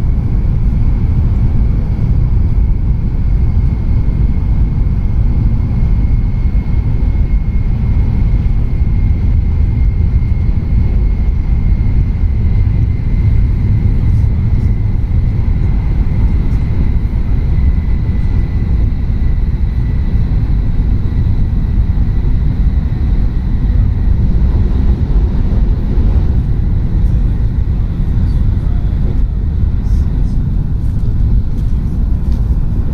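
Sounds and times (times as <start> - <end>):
train cabin rumble: 0.0 - 32.9.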